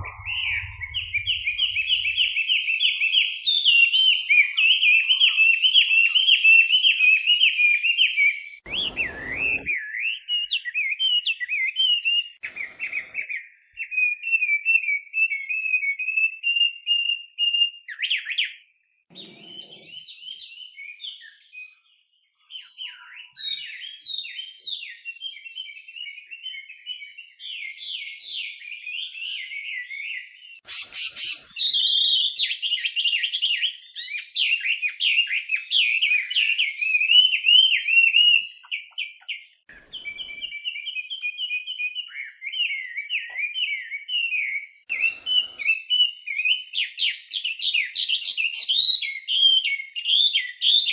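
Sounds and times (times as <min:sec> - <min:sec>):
bird singing whistled phrases: 0:00.0 - 0:18.6, 0:22.4 - 0:50.9.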